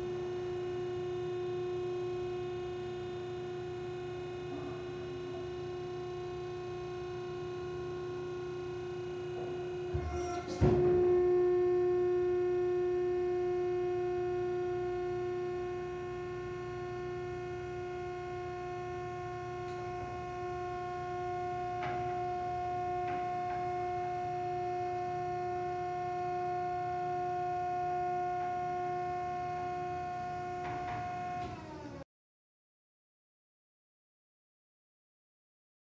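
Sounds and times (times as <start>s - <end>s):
hydraulic motor and pump whining: 0.0s - 32.0s.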